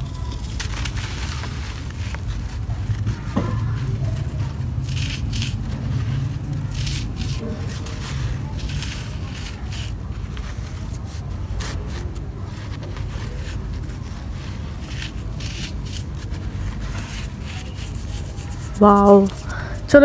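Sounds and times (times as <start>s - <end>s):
soil crumbled by hand: 0.0s - 19.5s.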